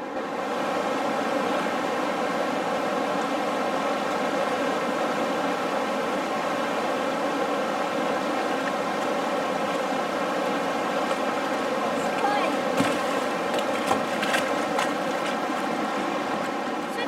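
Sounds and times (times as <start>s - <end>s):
river rapids rushing over rocks: 0.0s - 17.0s.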